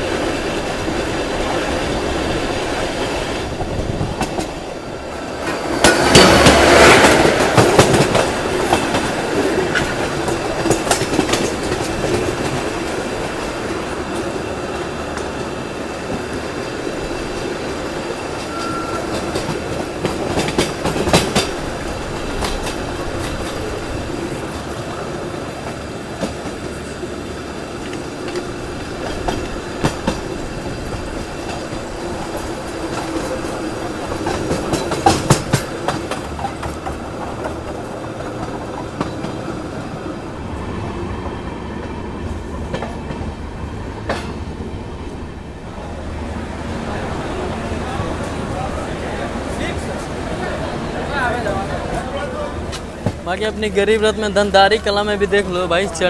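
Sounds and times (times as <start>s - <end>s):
wheels clacking over rail joints: 0.0s - 45.2s
train rumbling on rails: 0.0s - 56.0s.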